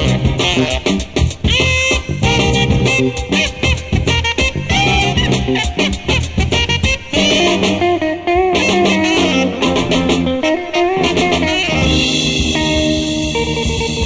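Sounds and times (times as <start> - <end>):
electric guitar line: 0.0 - 14.0
instrumental soul music: 0.0 - 14.0.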